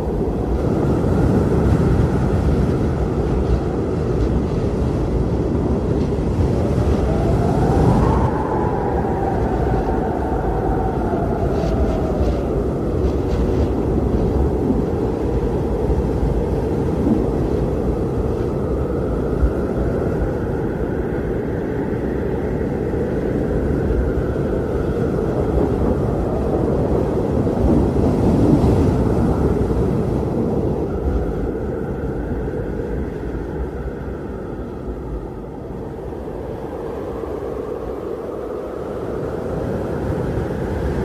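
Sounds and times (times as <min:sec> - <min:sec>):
strong howling blizzard wind: 0:00.0 - 0:41.0.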